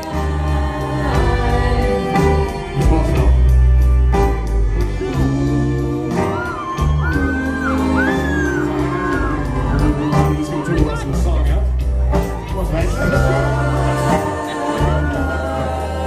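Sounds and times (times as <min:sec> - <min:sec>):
person singing: 0:00.0 - 0:11.2, 0:12.4 - 0:16.0
live band playing: 0:00.0 - 0:16.0.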